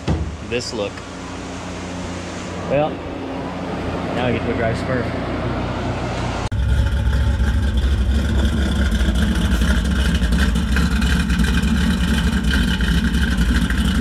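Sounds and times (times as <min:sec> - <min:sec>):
car engine running: 0:02.8 - 0:14.0.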